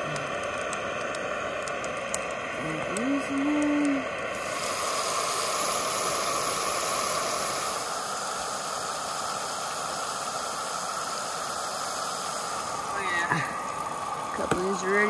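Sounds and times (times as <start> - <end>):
fish deep-frying in oil: 0.0 - 15.0
gas burner hiss: 0.0 - 15.0.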